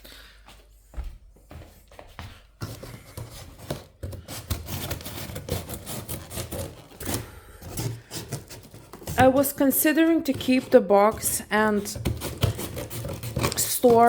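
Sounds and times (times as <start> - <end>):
cardboard rubbing and scraping: 2.6 - 14.0.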